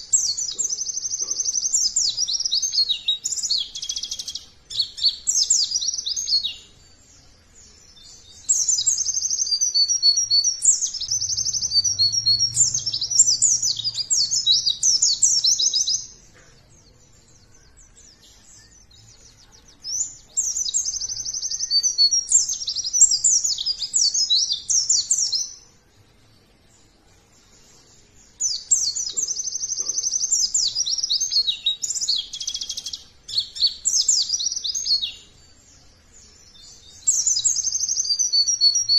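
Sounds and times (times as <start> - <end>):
bird twittering chirps and trills: 0.0 - 38.9.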